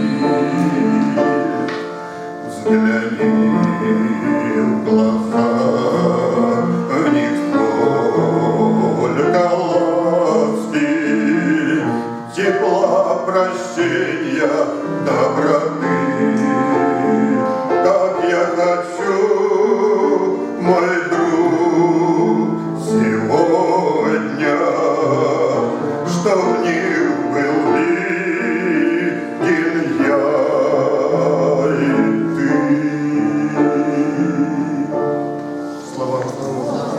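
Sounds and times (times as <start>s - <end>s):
man singing a hymn: 0.0s - 36.9s.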